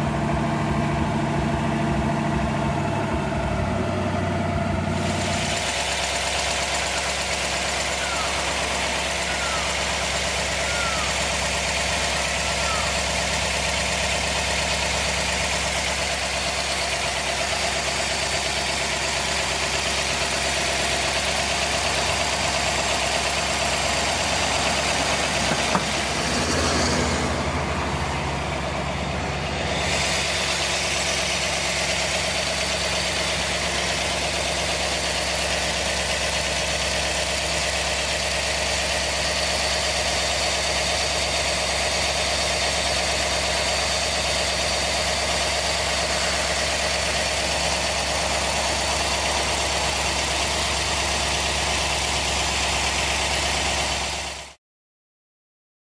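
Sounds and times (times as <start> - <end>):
car engine idling: 0.0 - 54.6.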